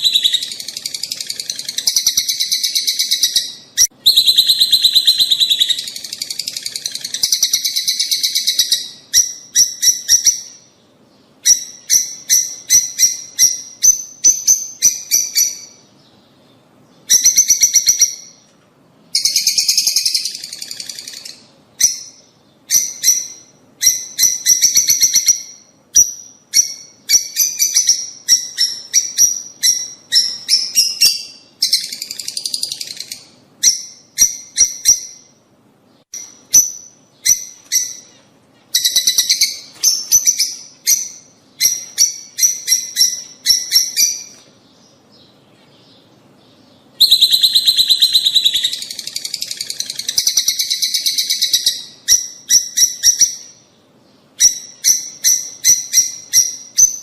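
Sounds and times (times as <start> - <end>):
lovebirds chirping shrilly: 0.0 - 18.5, 19.1 - 35.4, 36.0 - 57.0.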